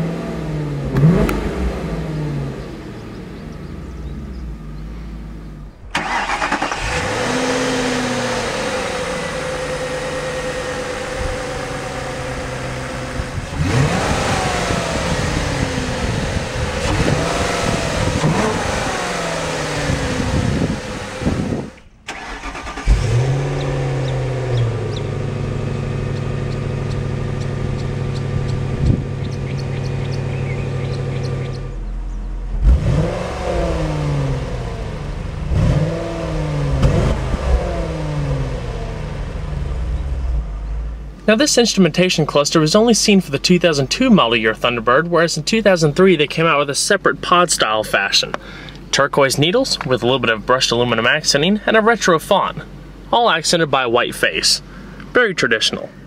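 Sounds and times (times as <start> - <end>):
car engine revving: 0.0 - 54.8.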